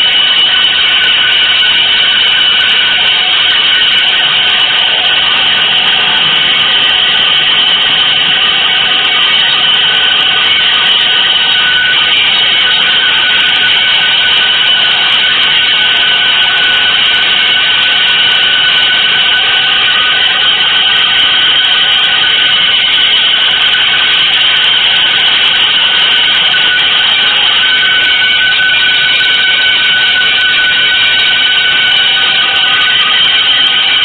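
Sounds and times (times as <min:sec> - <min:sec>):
thin high tone: 0:00.0 - 0:34.0.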